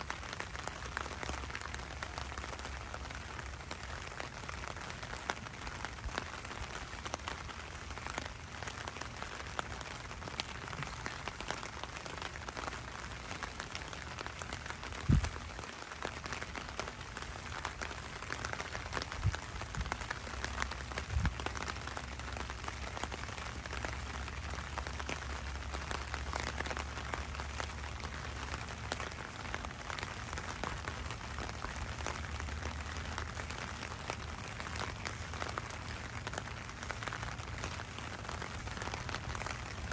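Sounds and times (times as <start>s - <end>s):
rain on wet pavement: 0.0s - 39.9s.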